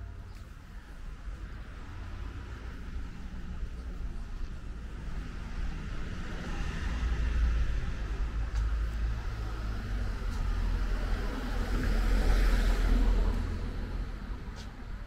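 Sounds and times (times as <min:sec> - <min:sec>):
steady low traffic rumble: 0:00.0 - 0:15.0
car passing: 0:01.3 - 0:14.6.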